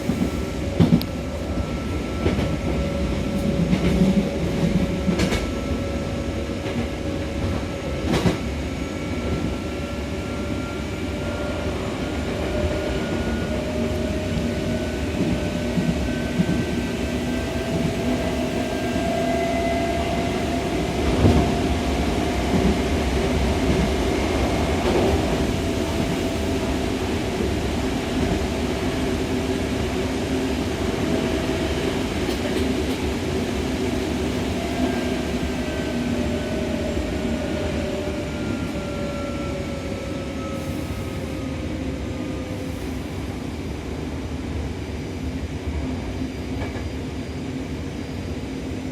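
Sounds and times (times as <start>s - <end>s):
train wheels rumbling: 0.0s - 44.8s.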